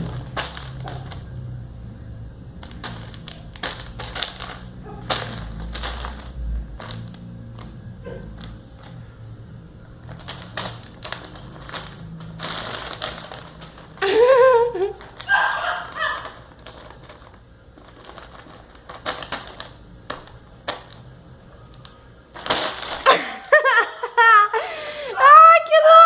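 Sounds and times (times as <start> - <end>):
plastic bag rustling: 0.0 - 1.6, 2.5 - 9.2, 9.9 - 24.7.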